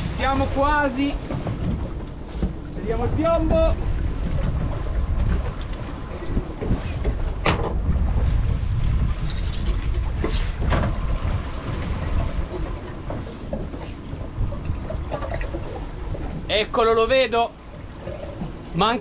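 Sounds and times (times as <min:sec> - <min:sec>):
wind on microphone: 0:00.0 - 0:17.1
outboard motors rumbling: 0:00.0 - 0:19.0.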